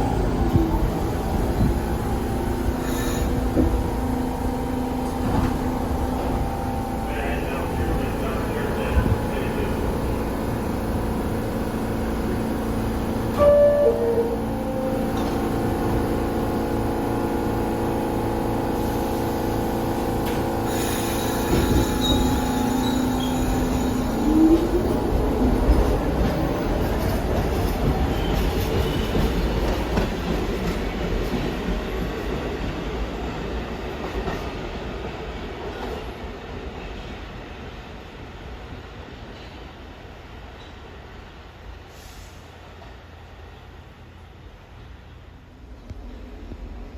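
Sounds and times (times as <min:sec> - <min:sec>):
subway train whining: 0:00.0 - 0:46.9.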